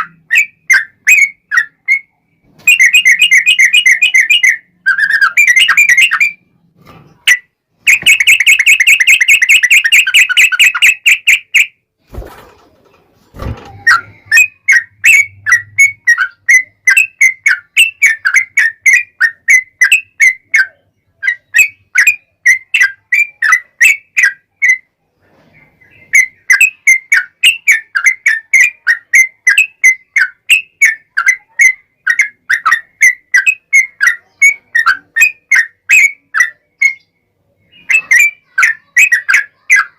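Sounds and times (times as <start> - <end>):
bulbul singing: 0.0 - 6.6, 7.2 - 11.8, 13.7 - 24.9, 25.8 - 39.9.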